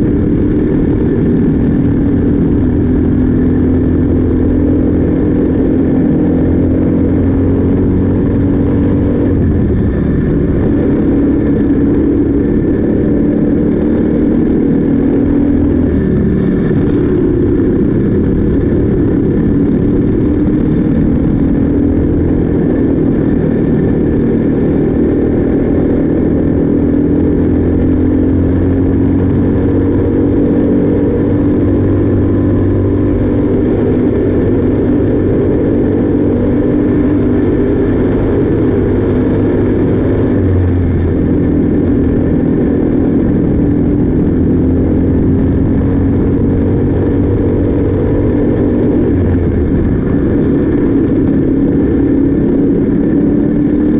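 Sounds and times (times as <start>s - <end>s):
kart engine running hard: 0.0s - 53.9s.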